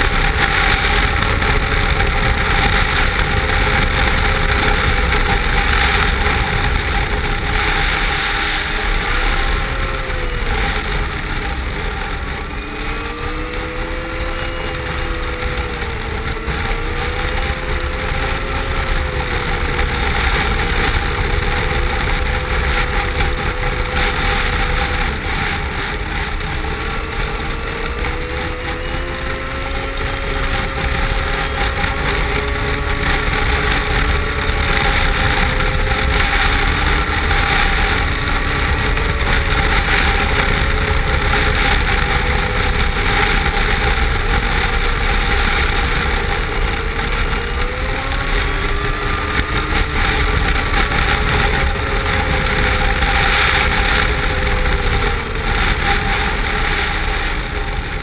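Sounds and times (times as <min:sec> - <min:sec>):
snowmobile engine running: 0:00.0 - 0:58.0
steady rushing noise: 0:00.0 - 0:58.0.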